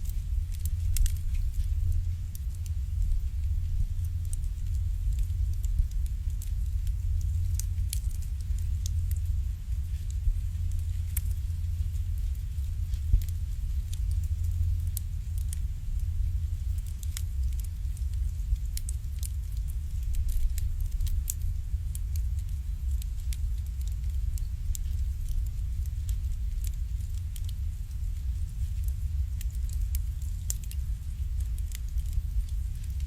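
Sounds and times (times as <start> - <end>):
low rumble: 0.0 - 33.0
wood fire crackling: 0.0 - 33.0.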